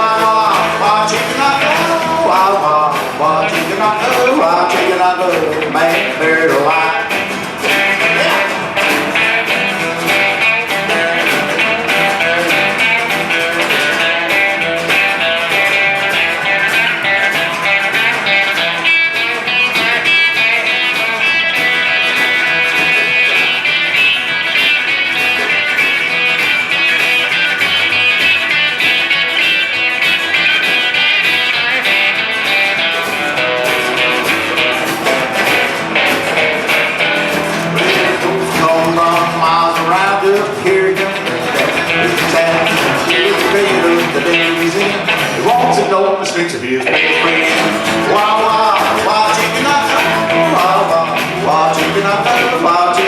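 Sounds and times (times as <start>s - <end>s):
rockabilly guitars: 0.0s - 53.0s
steady drum beat: 0.0s - 53.0s
upright bass: 0.0s - 53.0s.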